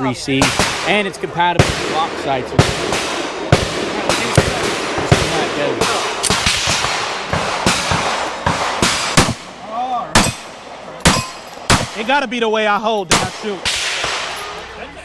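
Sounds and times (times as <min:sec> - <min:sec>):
voices: 0:00.0 - 0:15.0
pistol gunshots: 0:00.3 - 0:12.3, 0:13.1 - 0:14.6.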